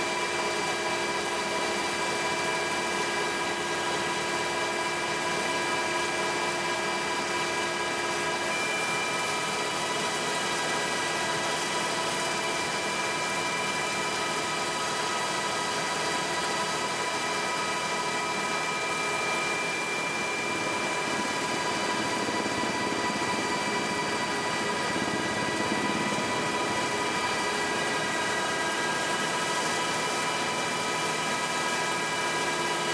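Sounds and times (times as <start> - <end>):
engine and rotor rush: 0.0 - 32.9
turbine whine: 0.0 - 32.9.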